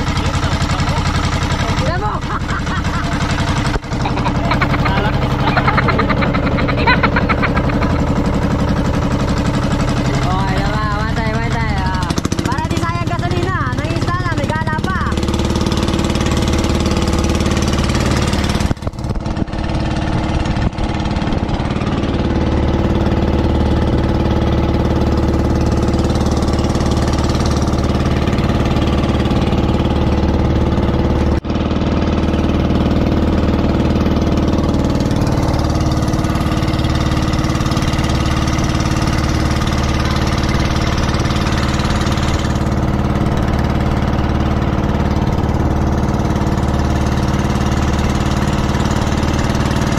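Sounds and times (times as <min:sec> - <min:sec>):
boat engine throbbing: 0:00.0 - 0:49.9.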